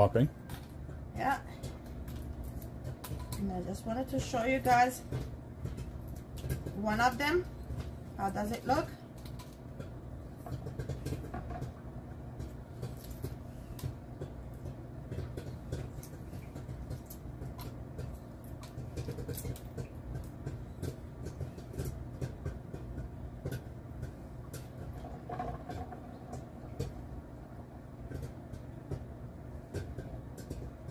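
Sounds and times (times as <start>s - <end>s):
popcorn popping: 0.0s - 30.9s
steady low hum: 0.0s - 30.9s.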